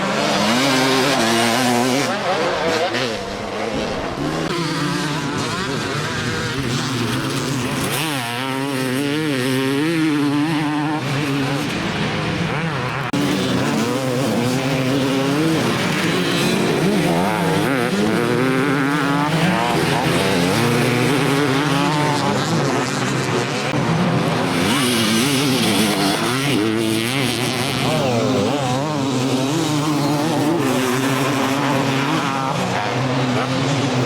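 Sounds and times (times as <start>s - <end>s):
motorcycle engines racing: 0.0s - 34.0s.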